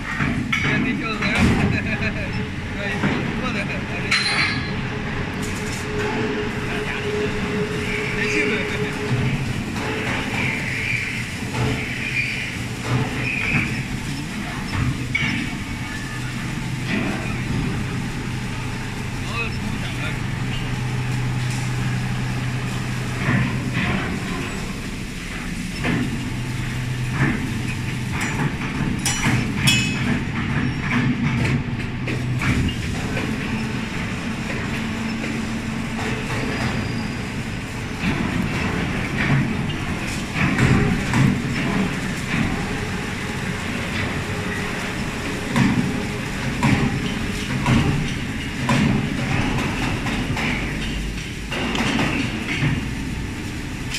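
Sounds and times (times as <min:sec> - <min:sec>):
machinery clanks and clattering: 0:00.0 - 0:53.9
machinery low hum: 0:00.0 - 0:53.9.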